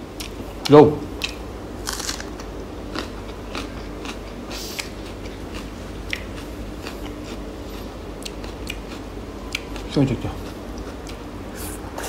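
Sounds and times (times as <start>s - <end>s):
onion being bitten and chewed: 1.2s - 7.5s, 8.2s - 11.9s.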